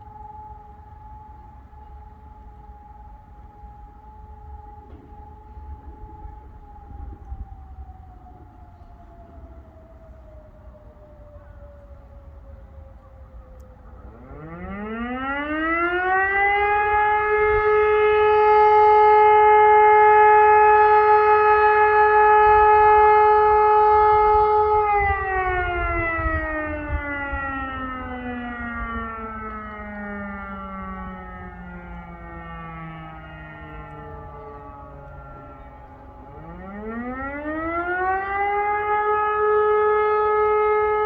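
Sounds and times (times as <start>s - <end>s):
electromechanical siren howling: 0.0s - 41.0s.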